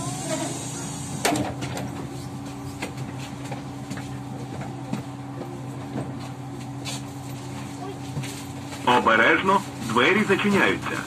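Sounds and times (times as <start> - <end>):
electrical equipment hum: 0.0 - 11.0.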